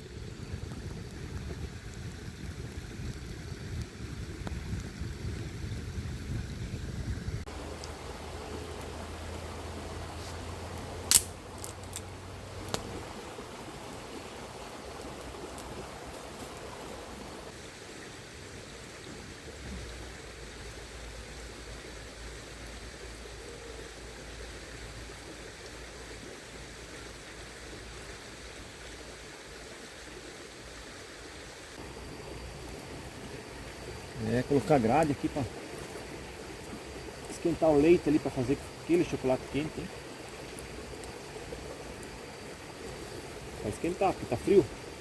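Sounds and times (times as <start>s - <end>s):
shallow river flowing: 0.0s - 45.0s.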